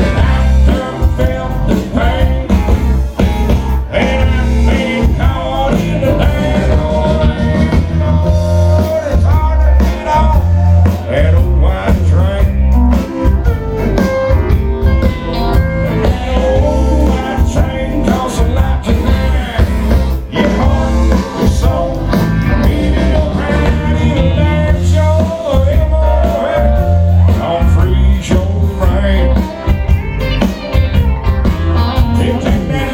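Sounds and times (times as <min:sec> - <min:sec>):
man singing: 0:00.0 - 0:14.1, 0:15.0 - 0:30.0, 0:32.0 - 0:32.9
live country band: 0:00.0 - 0:32.9.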